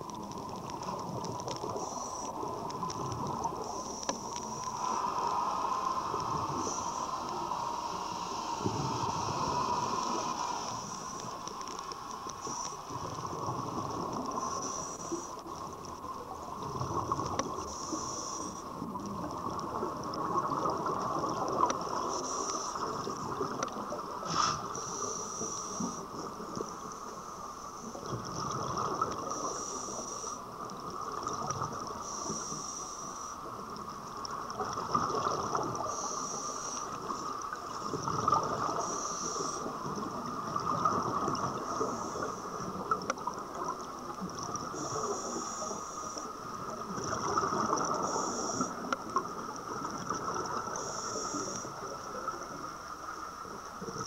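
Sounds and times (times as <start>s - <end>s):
exhaled bubbles underwater: 0.0s - 11.5s, 12.2s - 25.0s, 27.8s - 30.0s, 30.6s - 32.4s, 33.4s - 54.0s
regulator hiss: 0.0s - 16.3s, 17.5s - 18.9s, 20.9s - 28.0s, 28.9s - 49.0s, 49.9s - 52.4s.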